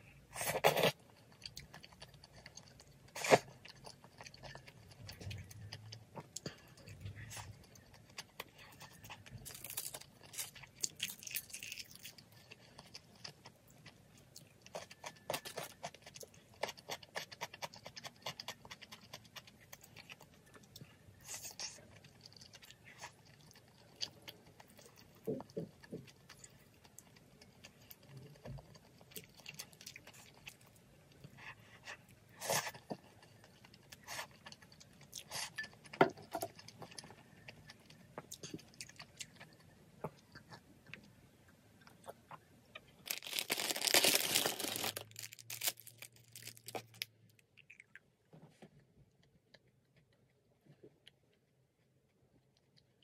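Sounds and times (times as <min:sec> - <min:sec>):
person chewing: 0:00.3 - 0:48.2.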